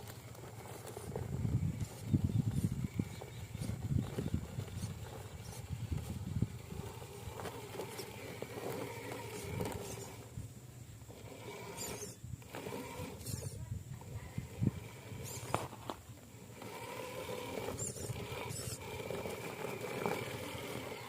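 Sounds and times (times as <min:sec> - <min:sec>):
small electric motor whining: 0:00.0 - 0:21.0
tyres and chassis scraping: 0:00.0 - 0:21.0.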